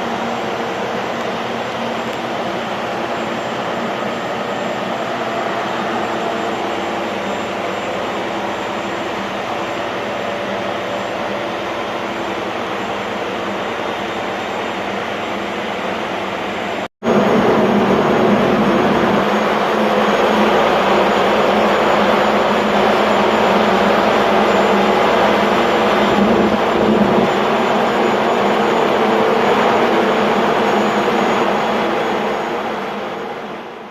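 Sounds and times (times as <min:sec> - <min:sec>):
engine-room machinery running: 0:00.0 - 0:33.9.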